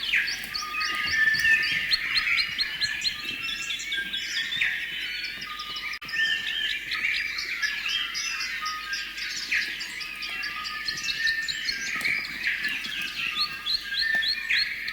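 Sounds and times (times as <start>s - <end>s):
small birds chirping chorus: 0.0s - 14.9s.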